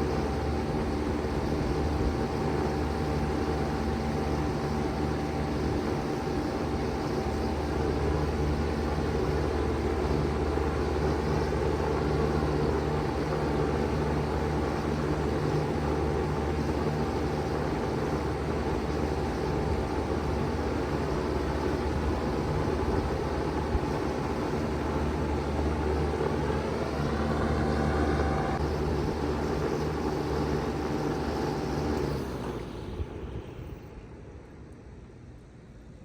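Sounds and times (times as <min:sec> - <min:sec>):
heat pump humming: 0:00.0 - 0:35.6
fan rushing air: 0:00.0 - 0:36.0.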